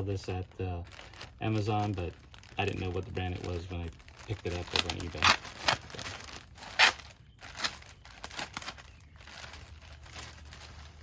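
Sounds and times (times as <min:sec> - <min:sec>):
packing material rustling and crinkling: 0:00.0 - 0:11.0.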